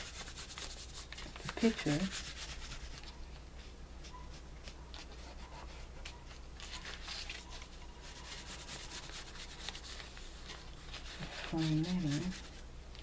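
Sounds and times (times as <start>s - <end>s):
scratchy rubbing on paper: 0.0s - 3.2s, 4.1s - 12.7s.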